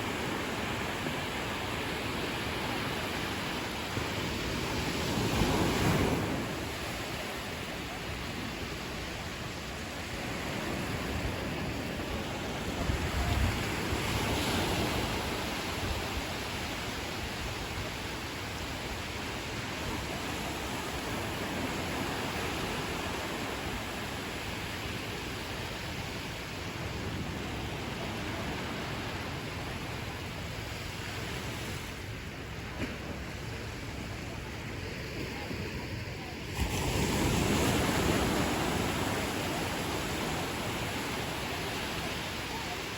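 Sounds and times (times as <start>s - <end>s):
ocean surf washing onto beach: 0.0s - 42.9s.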